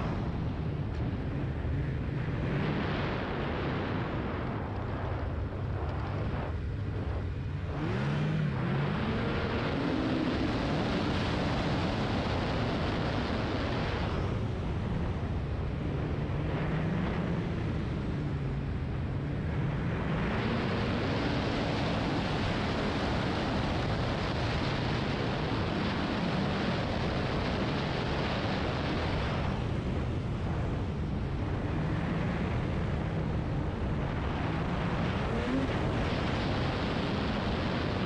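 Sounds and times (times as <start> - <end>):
snowmobile engine and track: 0.0 - 38.0.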